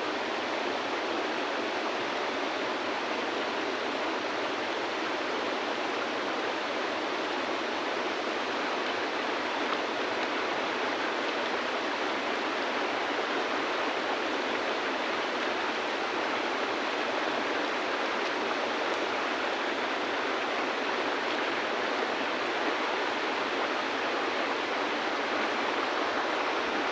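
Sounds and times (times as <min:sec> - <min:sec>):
river flowing over stones: 0:02.8 - 0:26.9.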